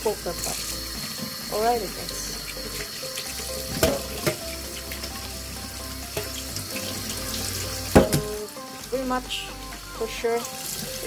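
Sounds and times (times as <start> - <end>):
tap water running into colander: 0.0 - 11.0.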